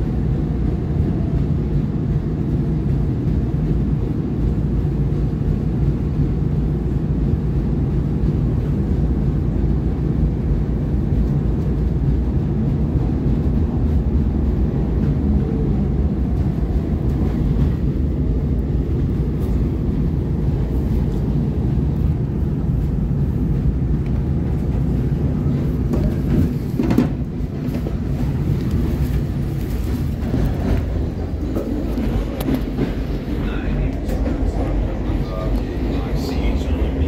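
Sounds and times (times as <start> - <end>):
train rumbling on elevated track: 0.0 - 37.0.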